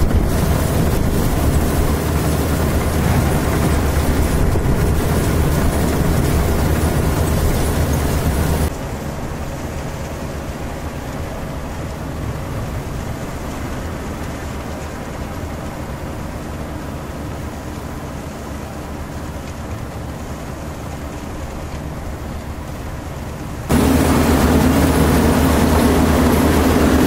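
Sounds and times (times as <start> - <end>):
combine harvesters running: 0.0 - 27.0.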